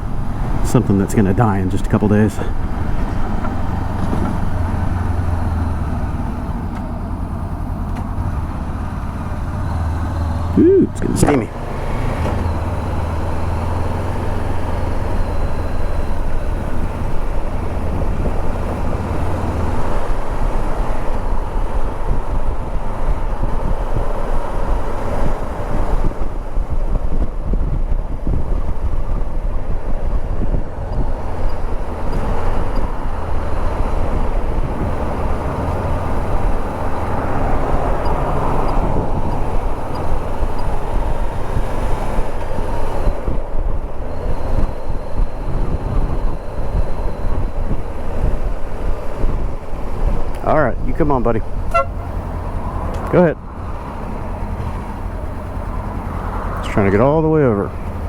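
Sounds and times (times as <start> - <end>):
motorcycle engine humming: 0.0 - 58.0
wind and road noise: 0.0 - 58.0.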